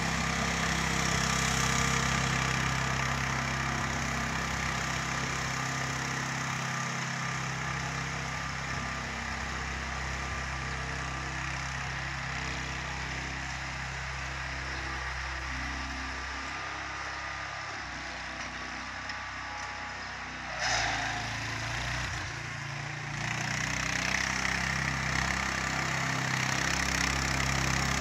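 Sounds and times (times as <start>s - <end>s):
tractor engine running: 0.0s - 19.8s, 21.8s - 28.0s.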